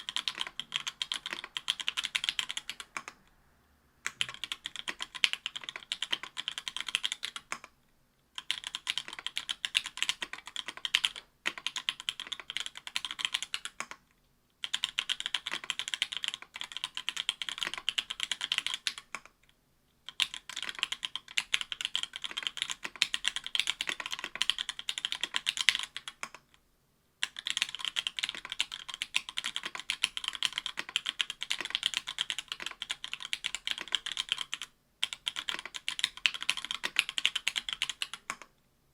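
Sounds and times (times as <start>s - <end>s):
fast typing on mechanical keyboard: 0.0s - 3.2s, 4.1s - 7.7s, 8.4s - 14.0s, 14.6s - 19.3s, 20.1s - 26.4s, 27.2s - 38.5s.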